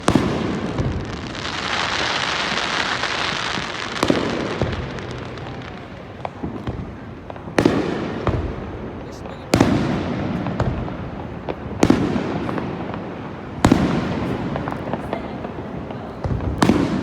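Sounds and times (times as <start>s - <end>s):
fireworks bangs: 0.0s - 17.0s
fireworks crackling: 0.0s - 17.0s
small fireworks pops: 0.0s - 17.0s.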